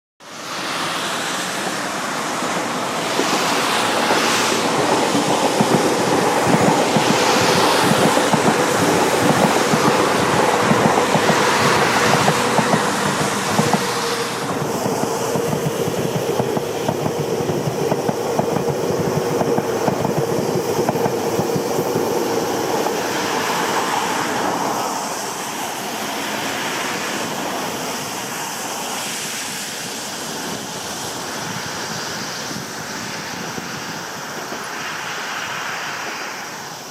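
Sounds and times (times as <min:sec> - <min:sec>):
train rolling past: 0:00.2 - 0:36.9.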